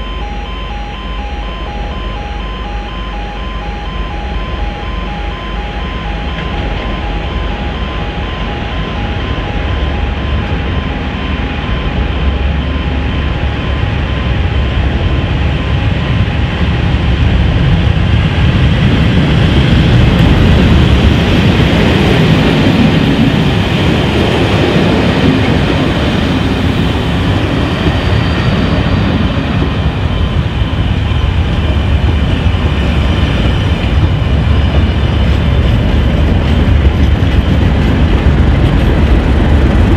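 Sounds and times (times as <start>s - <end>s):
coaches rumbling on rails: 0.0s - 39.9s
diesel locomotive passing: 0.0s - 39.9s.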